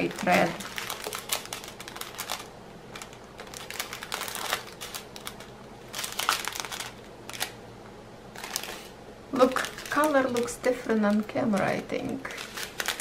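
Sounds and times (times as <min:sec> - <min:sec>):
plastic bags crinkling: 0:00.0 - 0:07.6, 0:08.3 - 0:13.0.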